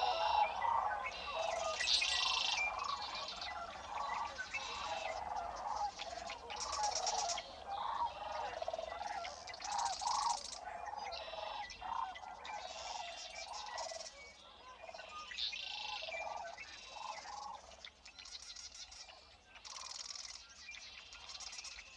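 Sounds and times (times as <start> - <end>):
birds calling and trilling: 0.0 - 21.9.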